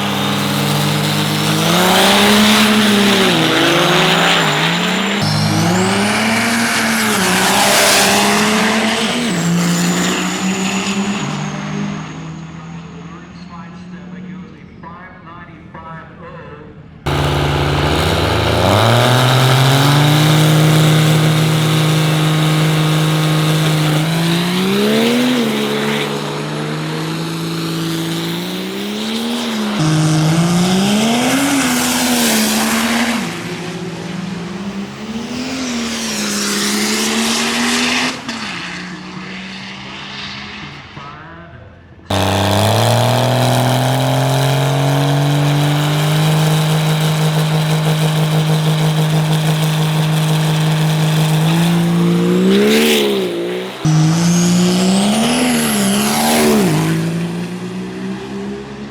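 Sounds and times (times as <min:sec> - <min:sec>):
diesel truck engines running hard: 0:00.0 - 0:14.4, 0:16.9 - 0:39.4, 0:42.1 - 0:58.9.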